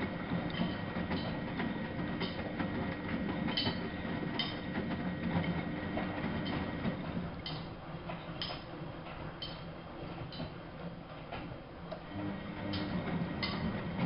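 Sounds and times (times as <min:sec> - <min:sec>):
washing machine rumbling: 0:00.0 - 0:14.0.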